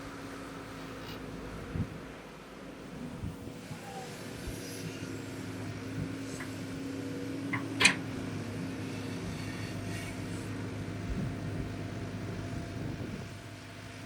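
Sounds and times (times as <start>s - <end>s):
excavator humming: 0.0s - 14.0s.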